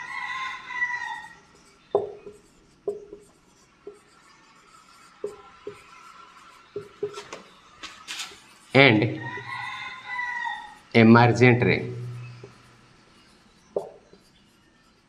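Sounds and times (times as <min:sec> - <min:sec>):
marker writing on whiteboard: 0:00.0 - 0:15.0.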